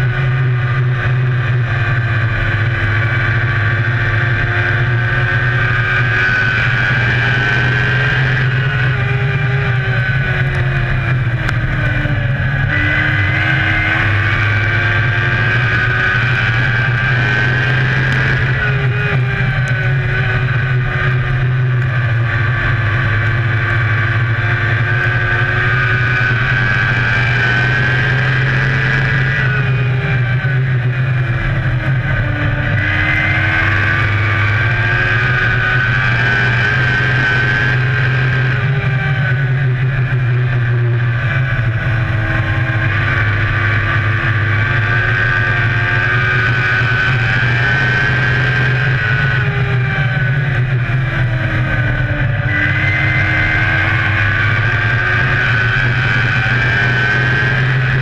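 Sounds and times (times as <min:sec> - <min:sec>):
race car engine at speed: 0:00.0 - 0:58.0.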